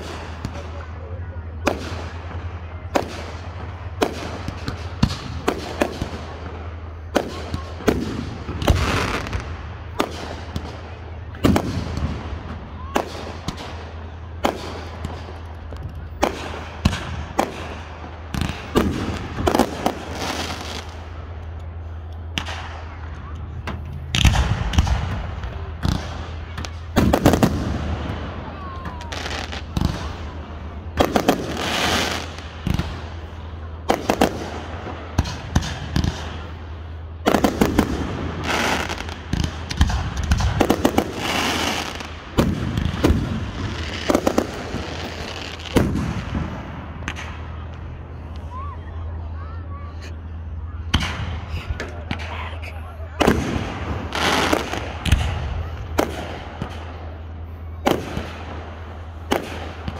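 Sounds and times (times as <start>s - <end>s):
fireworks bangs: 0.0s - 48.8s, 50.0s - 59.9s.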